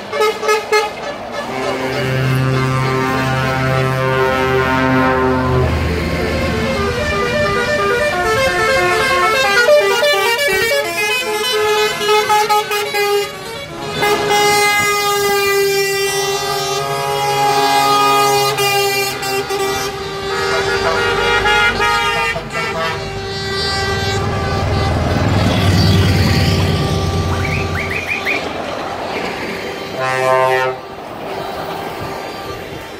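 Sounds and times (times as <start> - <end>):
long truck horn blasts: 0.0 - 32.9
lorries driving by: 0.0 - 32.9
truck horn playing a tune: 0.0 - 32.9.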